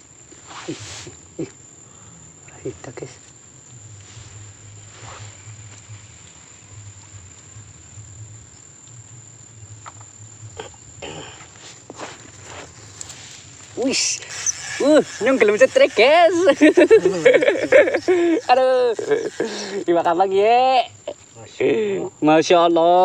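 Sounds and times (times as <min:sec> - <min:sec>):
faint low pulsing hum: 0:00.0 - 0:20.0
insects droning: 0:00.0 - 0:23.0.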